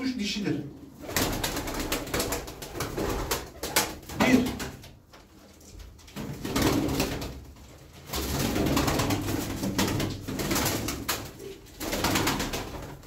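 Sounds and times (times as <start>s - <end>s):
pigeons flapping wings: 1.0s - 13.0s.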